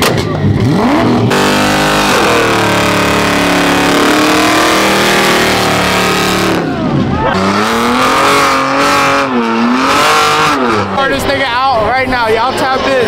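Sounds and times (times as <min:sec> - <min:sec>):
car engine revving hard: 0:00.1 - 0:11.4.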